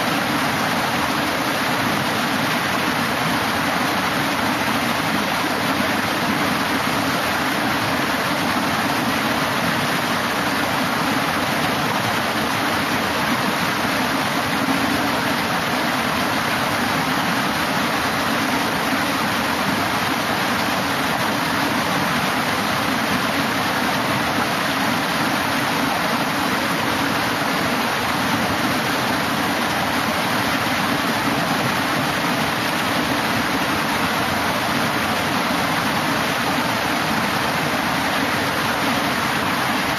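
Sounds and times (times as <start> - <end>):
water cascading over weirs: 0.0 - 39.9.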